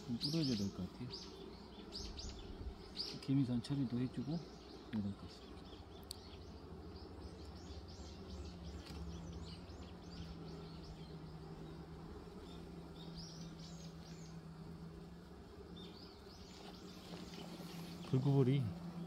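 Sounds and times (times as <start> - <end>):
honeybees humming: 0.0 - 19.0
small birds chirping: 0.0 - 19.0.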